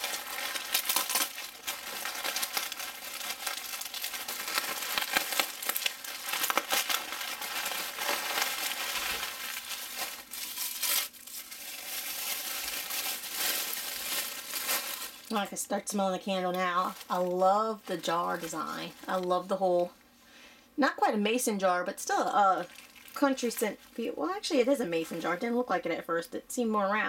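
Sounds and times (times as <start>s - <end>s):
bubble wrap crinkling: 0.0s - 19.9s, 22.1s - 25.6s.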